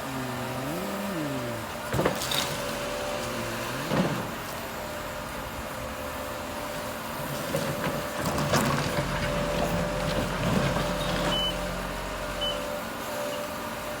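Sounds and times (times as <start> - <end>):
construction machinery engine drone: 0.0 - 14.0.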